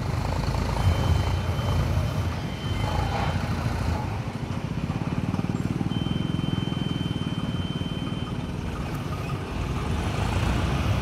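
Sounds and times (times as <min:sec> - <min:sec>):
vehicle engine running slowly: 0:00.0 - 0:11.0.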